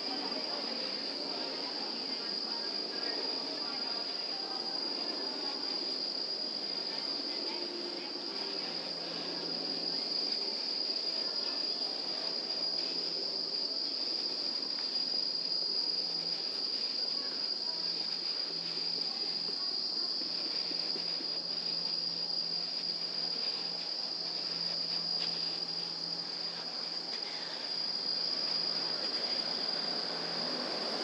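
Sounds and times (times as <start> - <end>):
insects droning: 0.0 - 31.0
outdoor background noise: 0.0 - 31.0.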